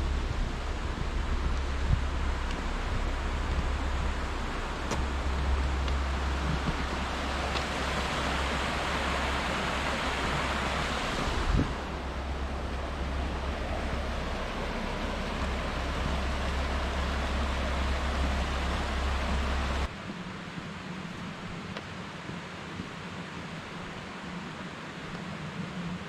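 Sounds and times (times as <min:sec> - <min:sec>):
rushing river water: 0:00.0 - 0:26.0.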